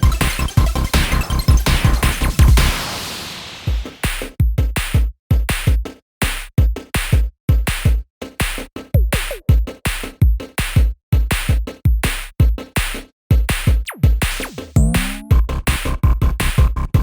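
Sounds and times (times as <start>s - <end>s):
electronic music with drum machine: 0.0s - 17.0s.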